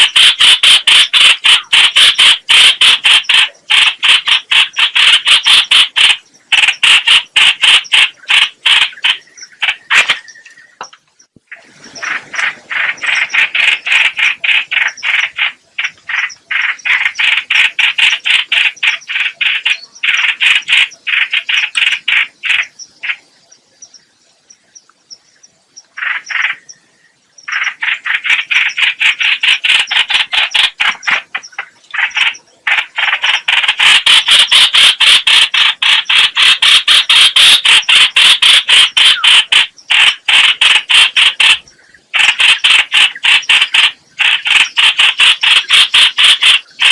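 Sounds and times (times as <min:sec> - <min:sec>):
bird chattering calls: 0:00.0 - 0:23.9, 0:25.9 - 0:26.8, 0:27.4 - 0:46.9.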